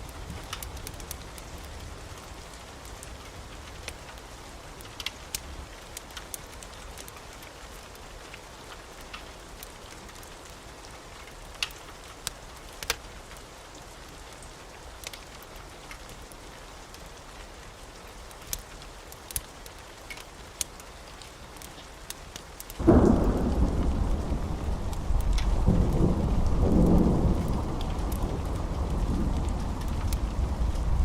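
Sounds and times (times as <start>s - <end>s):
rain hiss: 0.0s - 31.0s
wood fire crackling and popping: 0.0s - 31.0s.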